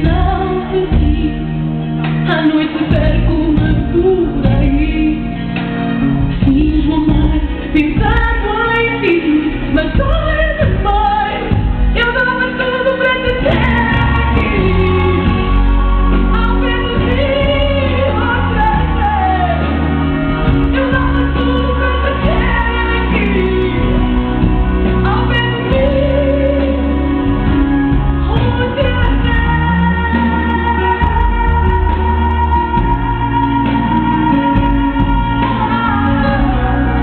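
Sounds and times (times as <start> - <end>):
pop backing music with heavy bass: 0.0 - 37.0
woman singing: 0.0 - 37.0.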